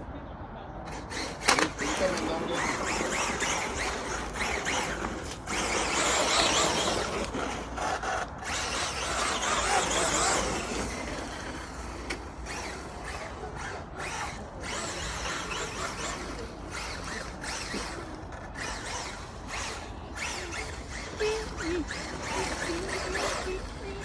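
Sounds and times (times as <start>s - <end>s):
electric motor whining: 0.9s - 24.0s.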